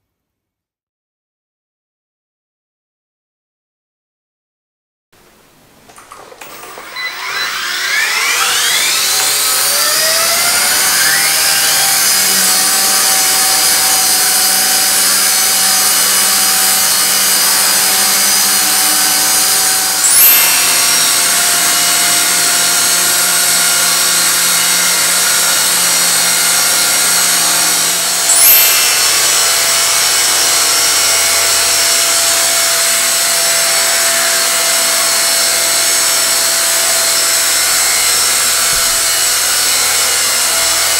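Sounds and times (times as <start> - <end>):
toy helicopter motors whining: 6.1 - 40.9.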